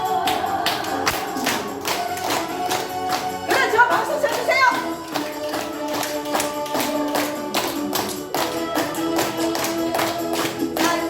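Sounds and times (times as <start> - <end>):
upbeat music: 0.0 - 11.0.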